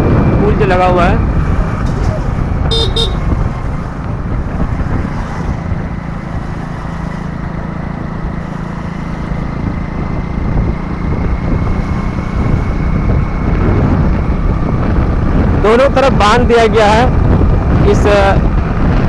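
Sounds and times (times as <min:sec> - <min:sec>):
road noise: 0:00.0 - 0:19.0
vehicle engine drone: 0:00.0 - 0:19.0
wind buffeting microphone: 0:00.0 - 0:19.0.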